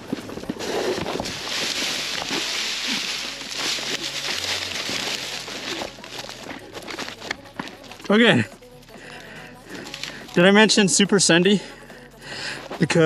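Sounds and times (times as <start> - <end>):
wheel trail noise: 0.0 - 13.0.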